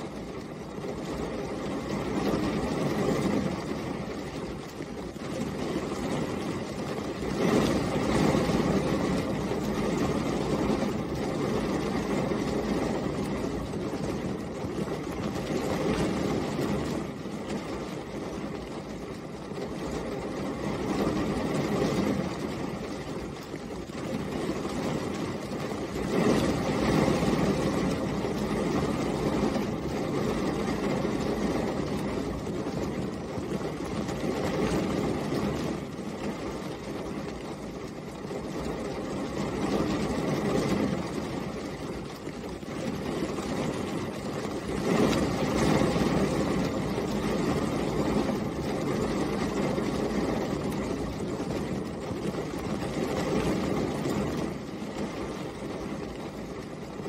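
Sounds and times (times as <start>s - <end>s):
rain pattering on glass: 0.0s - 57.0s.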